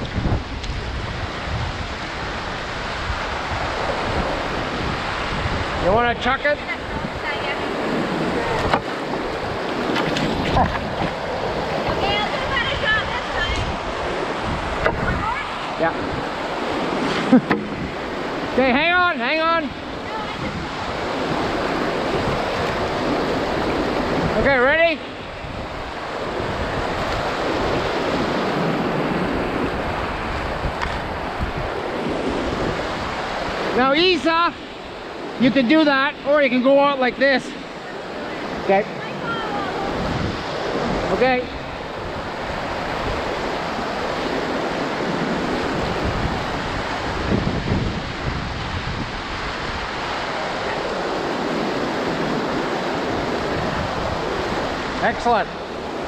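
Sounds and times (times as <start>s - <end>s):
river rapid roaring: 0.0s - 56.0s
wind buffeting microphone: 0.0s - 56.0s.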